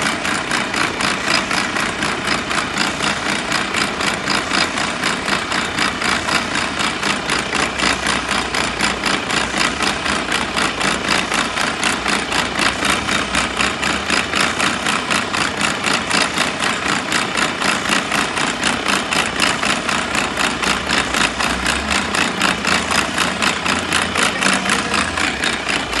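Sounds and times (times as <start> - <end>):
gearbox pulsing: 0.0 - 26.0
truck engine idling: 0.0 - 26.0.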